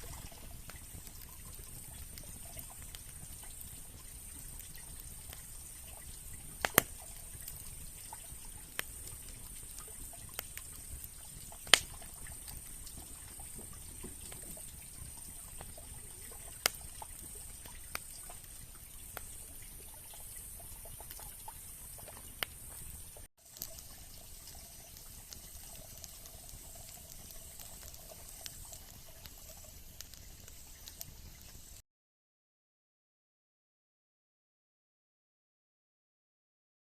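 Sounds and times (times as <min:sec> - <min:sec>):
campfire crackling and popping: 0:00.0 - 0:31.8
fire hiss: 0:00.0 - 0:31.8.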